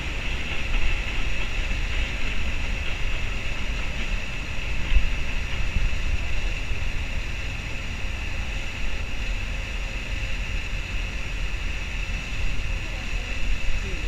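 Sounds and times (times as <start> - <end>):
distant rail traffic rumble: 0.0 - 14.0
high hiss: 0.0 - 14.0.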